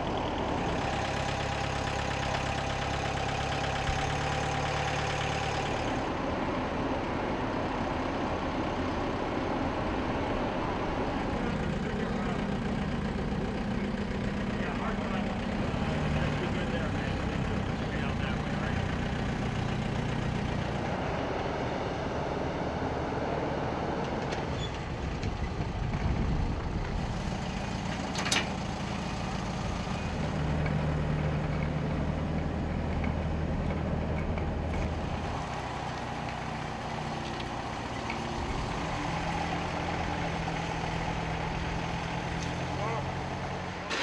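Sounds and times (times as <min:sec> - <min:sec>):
tractor engine humming: 0:00.0 - 0:44.0.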